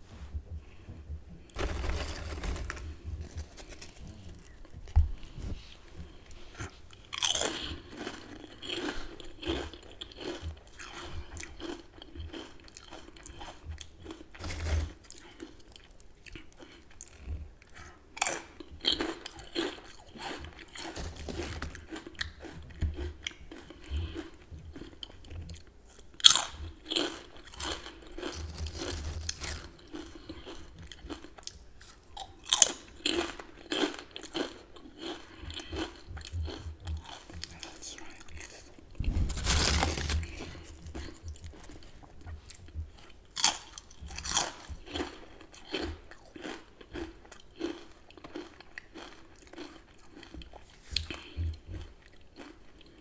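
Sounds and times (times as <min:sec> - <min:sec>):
crunching chips: 0:01.6 - 0:05.3, 0:06.9 - 0:17.2, 0:18.2 - 0:53.0
chewing: 0:06.0 - 0:53.0.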